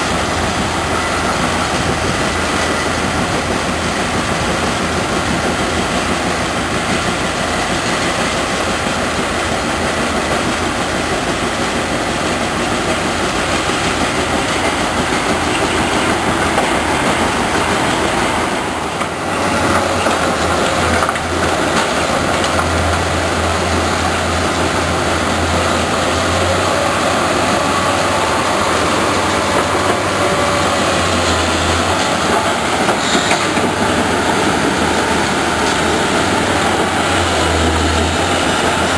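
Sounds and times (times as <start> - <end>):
diesel engine drone: 0.0 - 38.9.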